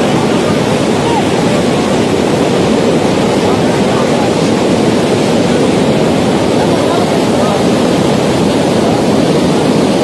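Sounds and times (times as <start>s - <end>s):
flood water roaring through rocks: 0.0s - 10.0s.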